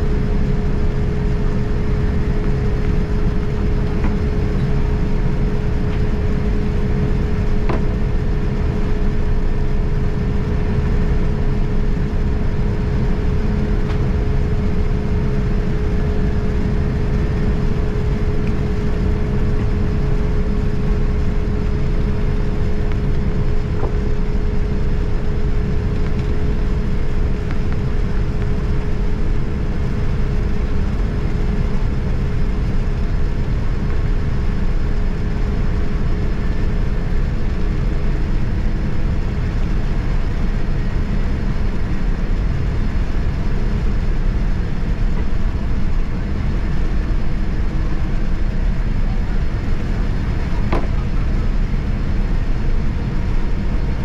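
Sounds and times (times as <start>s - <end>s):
aircraft cabin rumble: 0.0s - 54.0s
constant hum: 0.0s - 54.0s.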